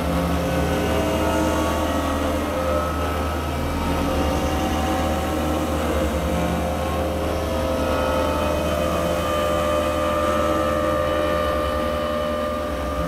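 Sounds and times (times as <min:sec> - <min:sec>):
electronic drone music: 0:00.0 - 0:13.0.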